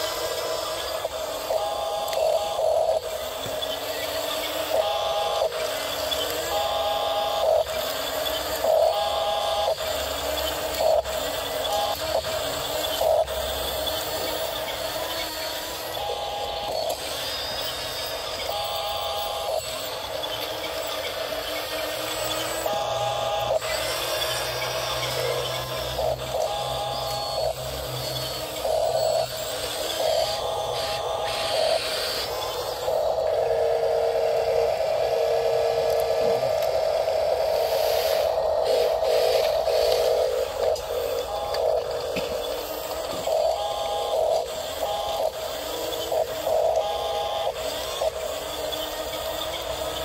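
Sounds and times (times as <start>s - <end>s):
toy bulldozer motor whining: 0.0s - 50.0s.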